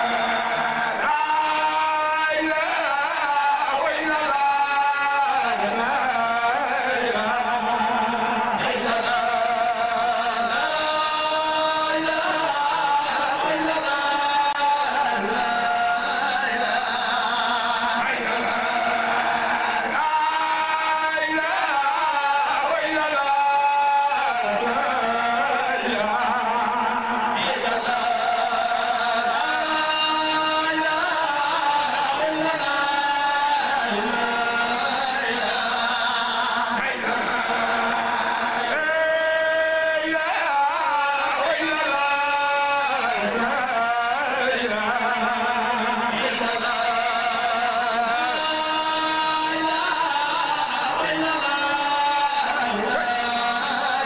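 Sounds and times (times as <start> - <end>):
man chanting into a microphone: 0.0 - 54.0.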